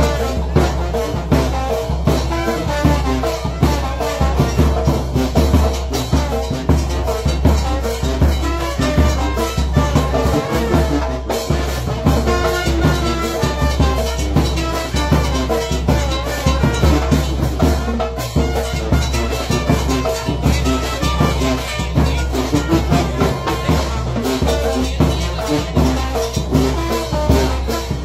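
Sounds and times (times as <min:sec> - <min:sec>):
bass drum and cymbal beat: 0:00.0 - 0:28.0
brass band playing dance music: 0:00.0 - 0:28.0.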